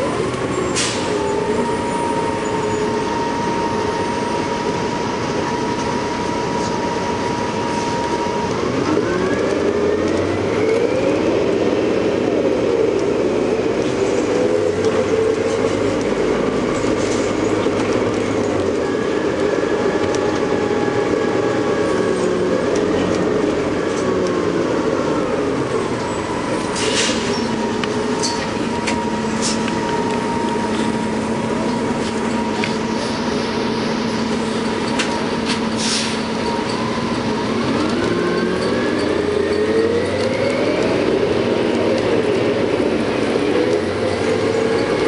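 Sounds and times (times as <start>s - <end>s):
bus engine and transmission whine: 0.0s - 45.0s.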